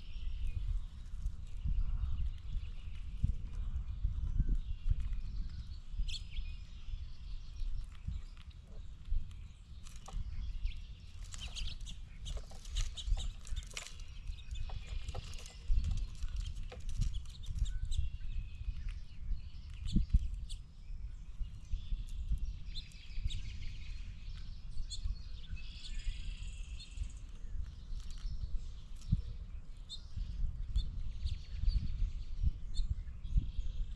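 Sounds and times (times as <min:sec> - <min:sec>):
birds calling: 0:00.0 - 0:33.9.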